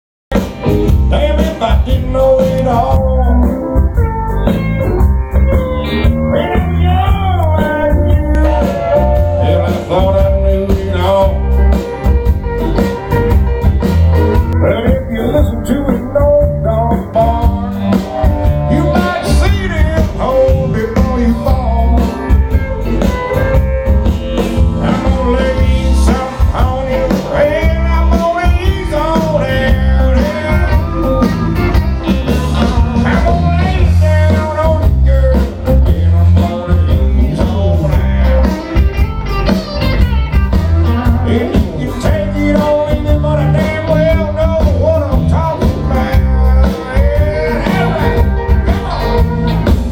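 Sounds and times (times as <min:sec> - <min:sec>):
live country band playing: 0:00.3 - 0:49.9.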